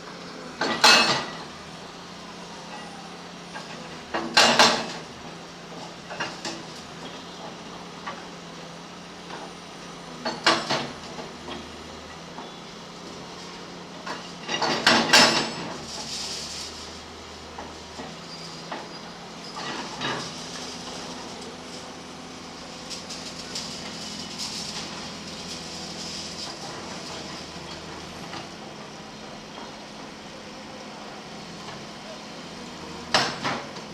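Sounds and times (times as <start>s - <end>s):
backhoe engine running: 0.0s - 33.9s.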